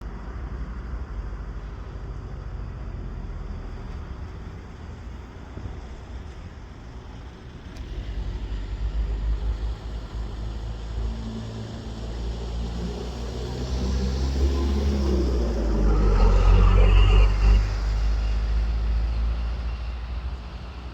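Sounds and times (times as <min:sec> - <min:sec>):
low outdoor rumble: 0:00.0 - 0:20.9
propeller plane engine drone: 0:00.0 - 0:20.9.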